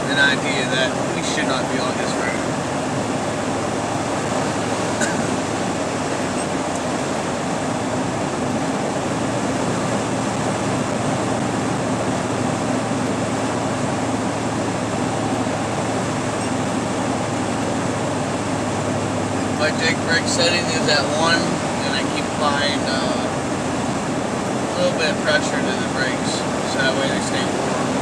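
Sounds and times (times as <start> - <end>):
low hum: 0.0 - 28.0
truck engine and road drone: 0.0 - 28.0.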